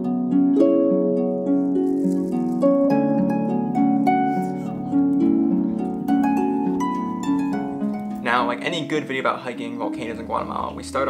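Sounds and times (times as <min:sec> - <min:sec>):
solo harp music: 0:00.0 - 0:11.0.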